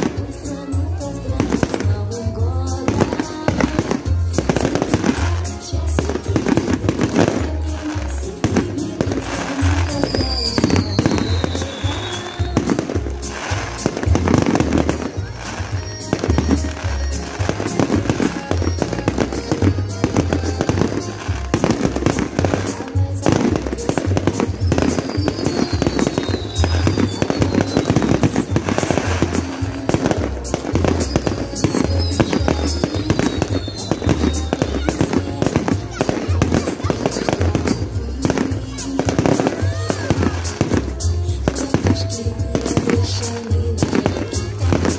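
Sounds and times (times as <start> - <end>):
fireworks bursting and crackling: 0.0 - 44.9
loud music with bass beat: 0.0 - 44.9.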